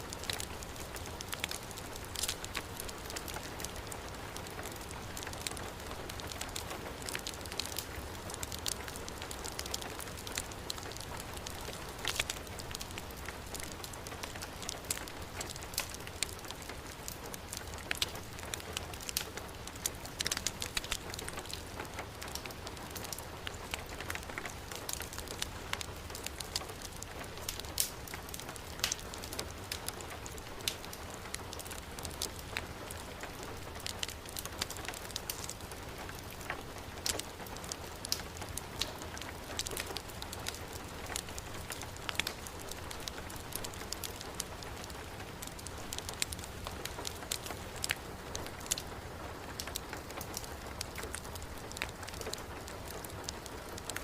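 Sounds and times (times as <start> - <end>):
heavy rain falling: 0.0 - 54.0
wood fire crackling: 0.0 - 54.0.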